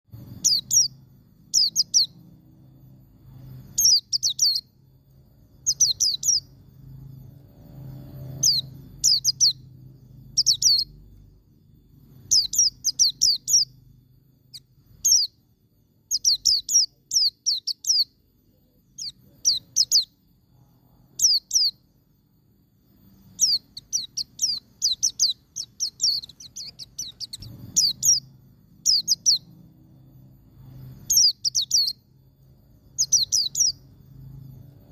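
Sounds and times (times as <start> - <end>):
bird high chirping song: 0.2 - 34.9.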